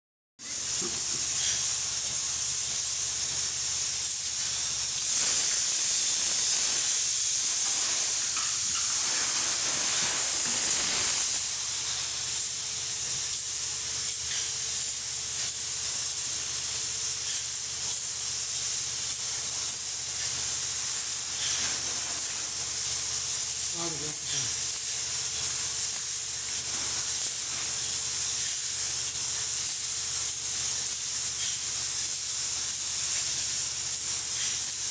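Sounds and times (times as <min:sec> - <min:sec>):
spray gun hissing: 0:00.4 - 0:34.9.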